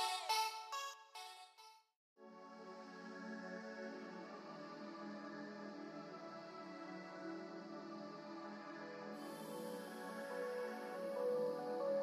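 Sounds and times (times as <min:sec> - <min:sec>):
calm background music: 0:02.2 - 0:12.0.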